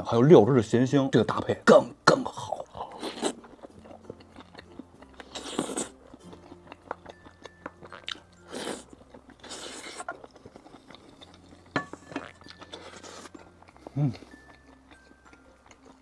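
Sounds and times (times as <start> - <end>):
person chewing crunchy food: 2.3 - 16.0.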